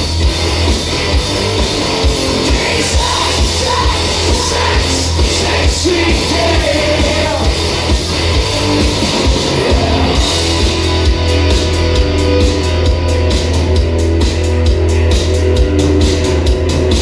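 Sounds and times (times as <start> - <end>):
fast driving drumbeat: 0.0 - 17.0
loud rock music: 0.0 - 17.0.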